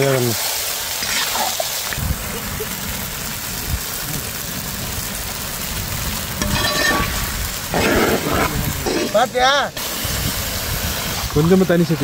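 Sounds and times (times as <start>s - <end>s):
pot cooking on fire: 0.0s - 12.0s.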